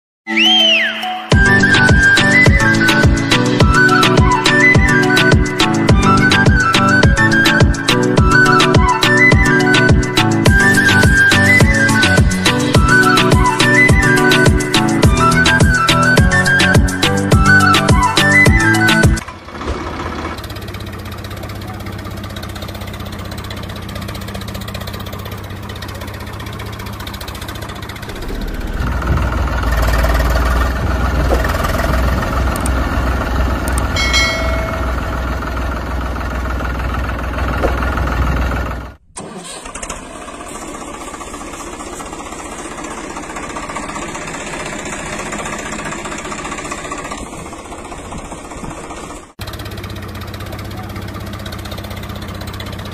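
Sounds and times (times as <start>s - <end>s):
tractor engine running: 1.3s - 52.9s.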